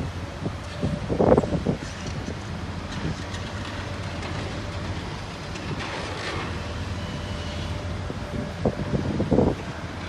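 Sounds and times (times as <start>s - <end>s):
excavator diesel engines droning: 0.0s - 10.0s.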